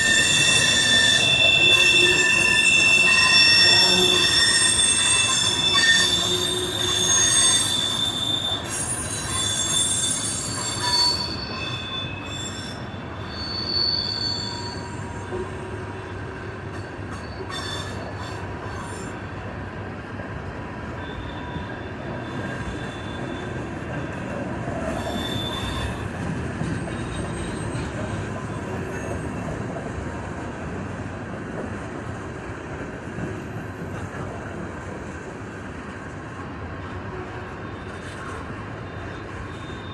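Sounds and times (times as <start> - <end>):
train wheels squealing: 0.0 - 19.5, 20.9 - 36.9, 37.5 - 39.9
train cars rolling rumble: 0.0 - 39.9.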